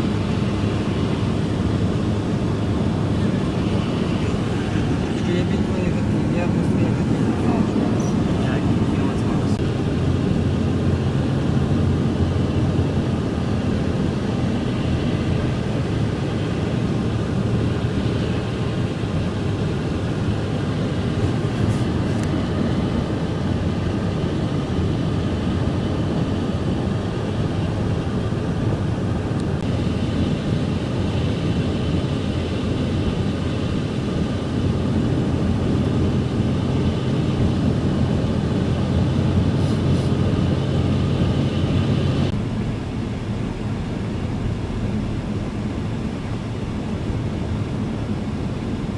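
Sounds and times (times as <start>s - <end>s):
car interior driving rumble: 0.0s - 48.9s.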